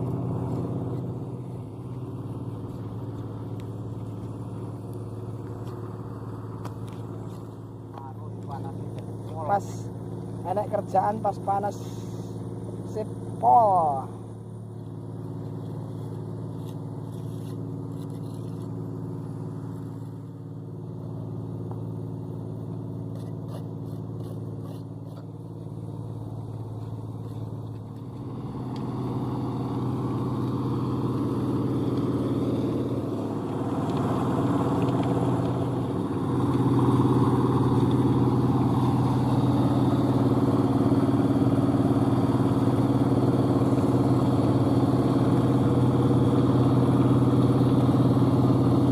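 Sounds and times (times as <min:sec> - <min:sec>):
concrete mixer engine humming: 0:00.0 - 0:48.9.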